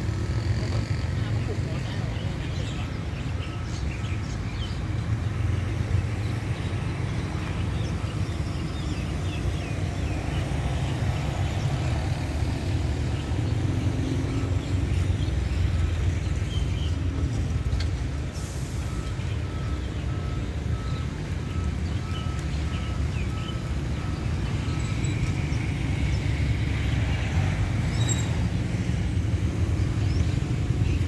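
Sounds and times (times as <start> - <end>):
diesel locomotive rumble: 0.0 - 31.0.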